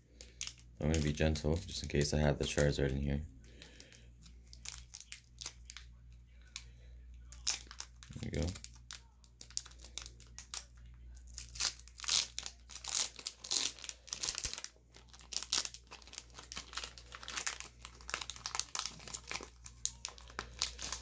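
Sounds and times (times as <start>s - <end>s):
foil wrapper crinkling: 0.1s - 21.0s.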